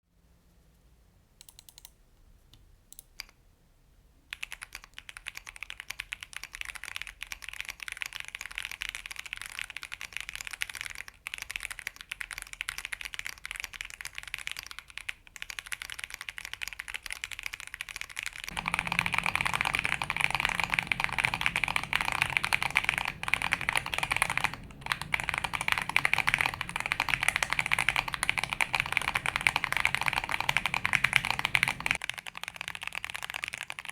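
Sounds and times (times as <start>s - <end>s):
mechanical keyboard typing: 1.4s - 1.9s, 4.3s - 33.9s.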